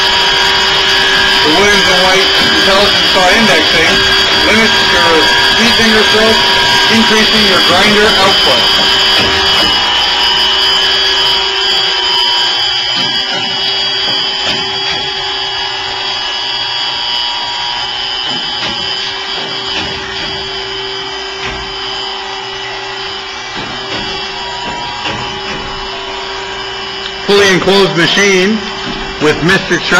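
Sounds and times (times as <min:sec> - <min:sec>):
saw grinder whine and grinding hiss: 0:00.0 - 0:29.9.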